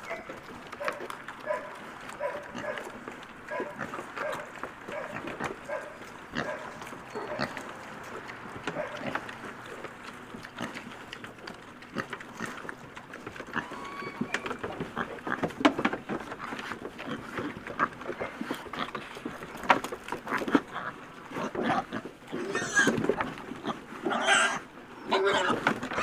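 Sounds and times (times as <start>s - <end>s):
pigs chewing and crunching: 0.0s - 26.0s.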